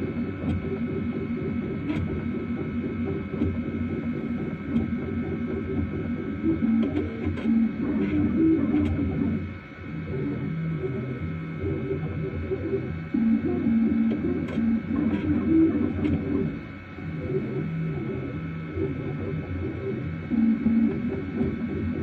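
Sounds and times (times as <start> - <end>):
printer motors humming: 0.0 - 22.0
steady high whine: 0.0 - 22.0.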